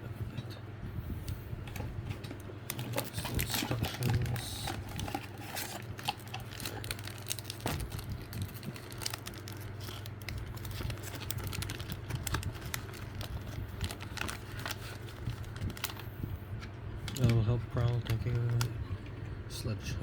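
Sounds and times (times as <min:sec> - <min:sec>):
low hum: 0:00.0 - 0:20.0
packaging crinkling and rustling: 0:01.6 - 0:18.8.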